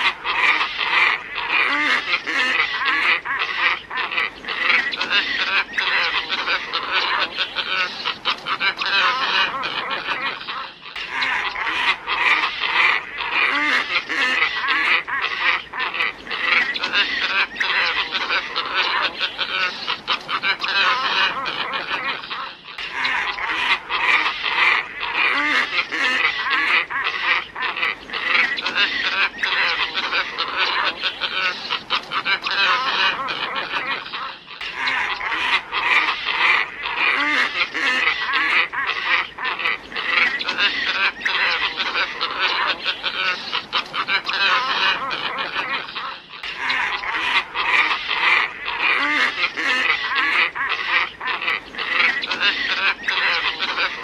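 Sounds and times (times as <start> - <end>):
ibis flock honking calls: 0.0 - 54.0.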